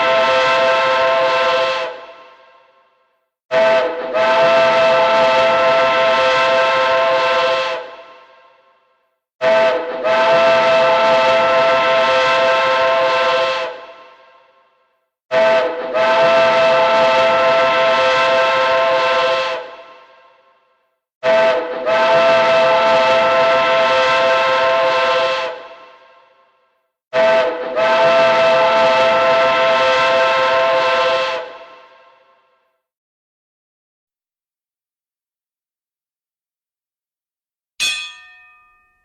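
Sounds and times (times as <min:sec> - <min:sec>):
train horn blasts: 0:00.0 - 0:32.6.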